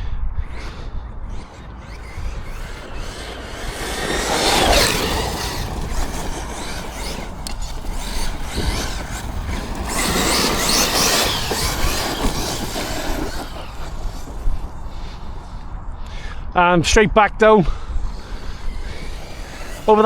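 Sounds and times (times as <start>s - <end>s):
electric motor whining: 0.4s - 16.3s, 17.7s - 20.0s.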